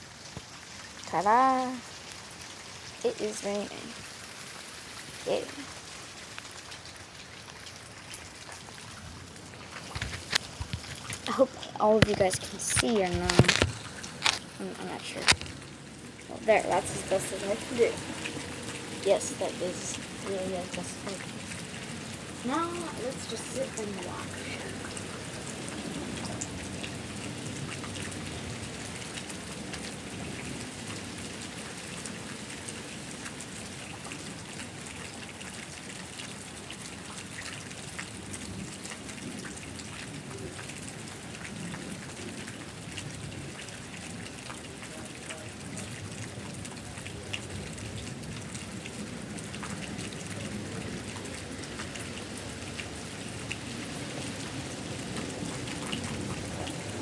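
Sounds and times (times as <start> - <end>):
pouring rain: 0.0 - 57.0
raindrops ticking close by: 0.0 - 57.0.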